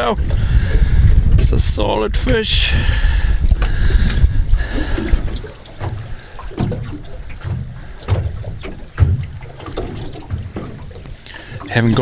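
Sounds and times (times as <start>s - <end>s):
waves slapping boat hull: 0.0s - 12.0s
wind buffeting microphone: 0.0s - 12.0s.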